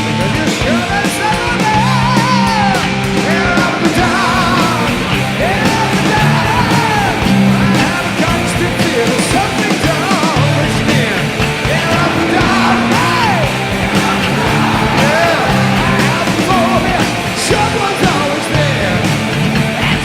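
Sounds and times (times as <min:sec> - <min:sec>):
bending guitar lead: 0:00.0 - 0:20.0
heavy rock music: 0:00.0 - 0:20.0.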